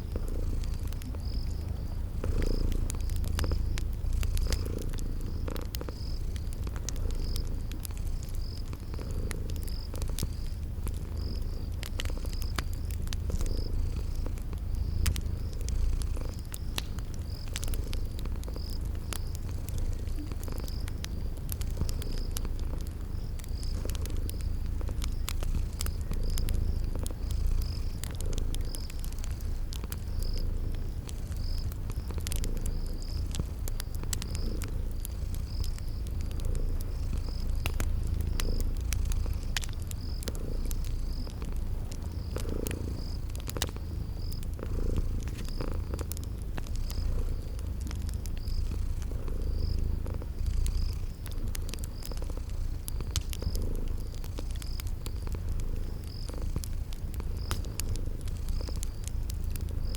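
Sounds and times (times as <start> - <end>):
cat purring: 0.0 - 59.9
cricket chirping: 0.0 - 59.9
wood fire crackling: 0.0 - 59.9.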